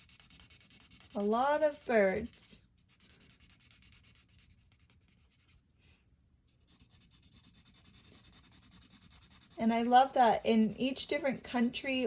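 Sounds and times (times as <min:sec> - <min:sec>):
colouring tool scribbling on paper: 0:00.0 - 0:05.6, 0:06.6 - 0:12.0.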